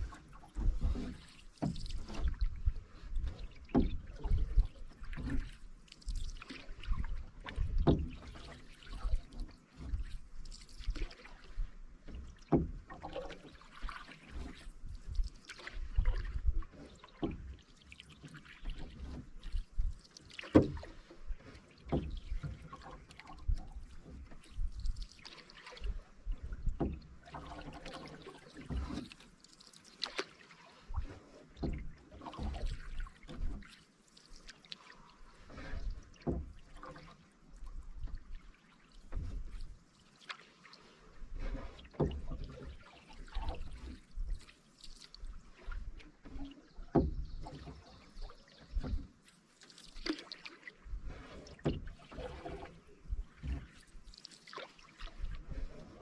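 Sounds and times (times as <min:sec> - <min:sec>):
paddle strokes splashing in water: 0:00.0 - 0:56.0.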